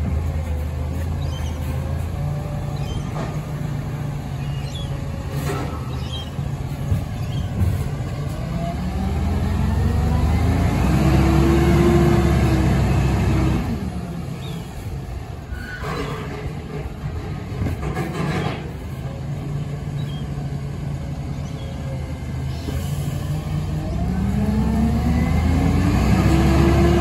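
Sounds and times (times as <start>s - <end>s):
garbage truck engine: 0.0s - 27.0s.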